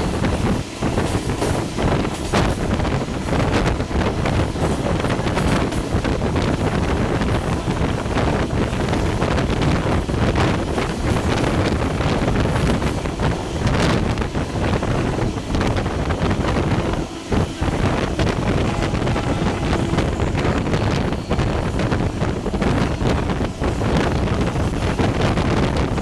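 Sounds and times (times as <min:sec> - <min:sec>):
moving passenger train: 0:00.0 - 0:26.0
wind buffeting microphone: 0:00.0 - 0:26.0.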